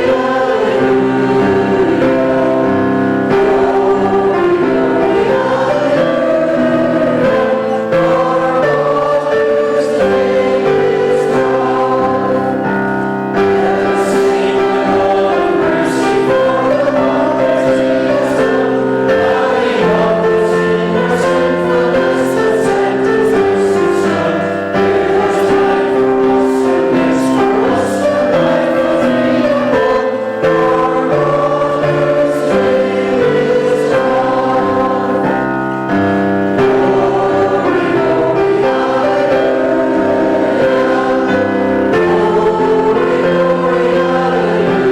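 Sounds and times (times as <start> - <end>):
congregation singing a hymn: 0.0 - 44.9
instrumental accompaniment: 0.0 - 44.9.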